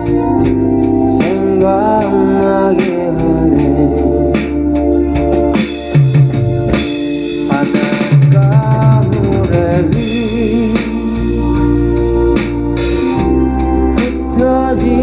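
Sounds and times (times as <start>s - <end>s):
bass: 0.0s - 15.0s
sustained keyboard chords: 0.0s - 15.0s.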